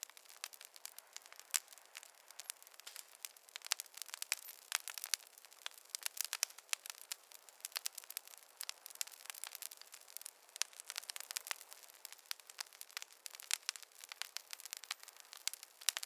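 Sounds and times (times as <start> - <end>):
campfire crackling: 0.0 - 16.0
faint hiss: 0.0 - 16.0.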